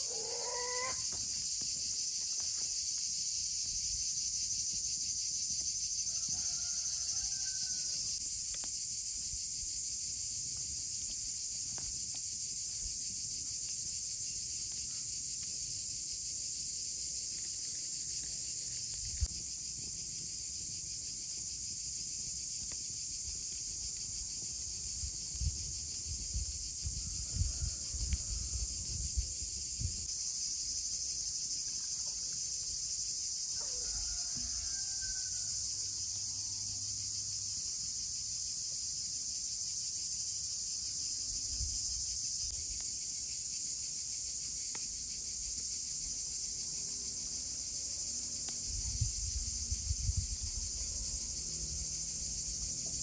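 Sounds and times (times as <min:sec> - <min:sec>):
high-pitched insect chorus: 0:00.0 - 0:53.0.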